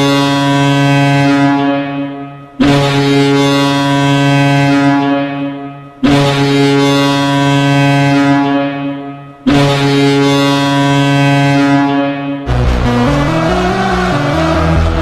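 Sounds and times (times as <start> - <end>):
goal horn blasts: 0.0 - 13.3.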